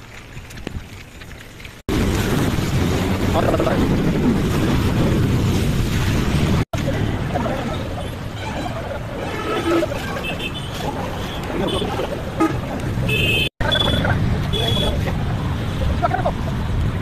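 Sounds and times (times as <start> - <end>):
rushing floodwater: 0.0 - 17.0.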